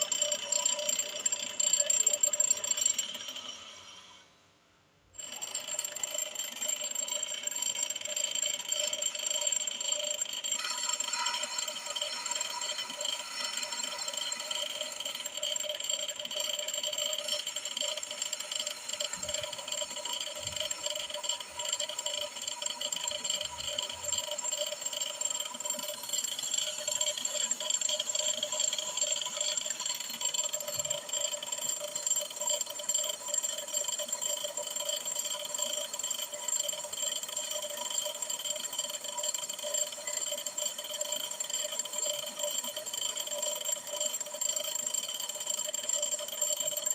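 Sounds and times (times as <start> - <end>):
brake lathe cutting drum: 5.2 - 46.9.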